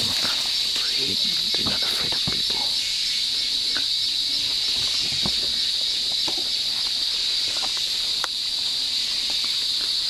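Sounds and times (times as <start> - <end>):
insect chorus drone: 0.0 - 10.0.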